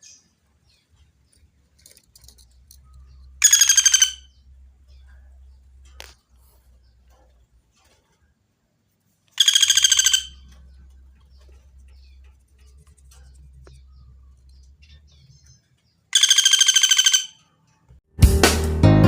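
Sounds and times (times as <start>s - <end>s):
woodpecker rattling calls: 0.0s - 7.3s, 9.3s - 17.7s
faint low hum: 0.0s - 16.1s.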